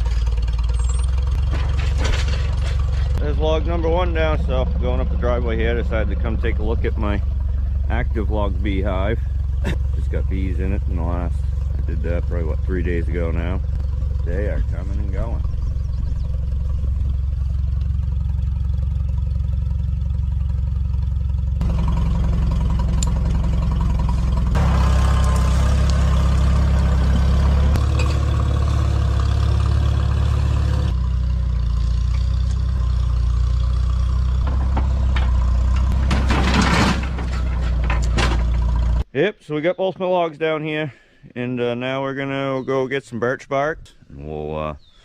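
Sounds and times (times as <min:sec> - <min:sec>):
tractor engine running: 0:00.0 - 0:39.1.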